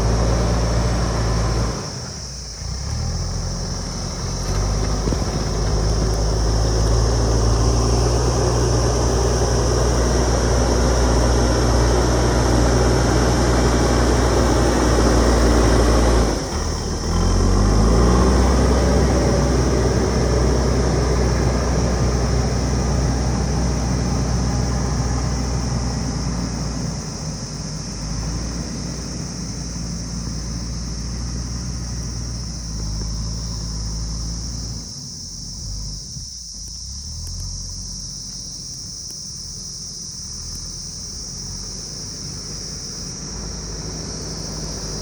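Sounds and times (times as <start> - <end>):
diesel engine running under load: 0.0 - 45.0.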